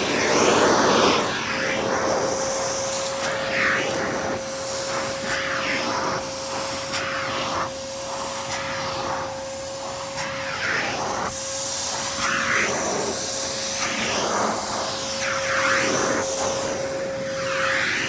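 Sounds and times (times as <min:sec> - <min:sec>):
suction hiss over carpet: 0:00.0 - 0:18.0
vacuum cleaner whine: 0:00.0 - 0:18.0.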